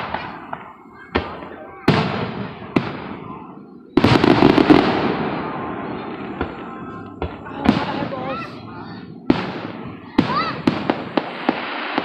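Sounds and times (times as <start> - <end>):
crackling bangs: 0.0 - 12.0
fireworks exploding: 0.0 - 12.0.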